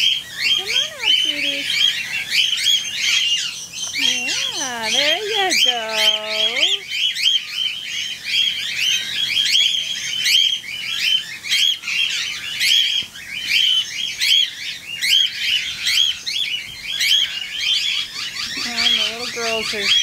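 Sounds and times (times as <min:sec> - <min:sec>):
cockatiels chirping: 0:00.0 - 0:20.0.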